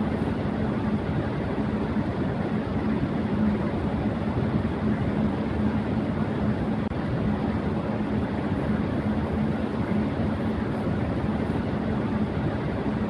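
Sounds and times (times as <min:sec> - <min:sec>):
electric fan air rush: 0:00.0 - 0:13.0
fan motor hum: 0:00.0 - 0:13.0.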